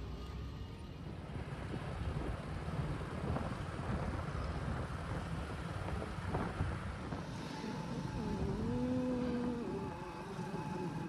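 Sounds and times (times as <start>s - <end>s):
vehicle rumbling: 0.0s - 11.0s
wind on microphone: 1.0s - 10.8s.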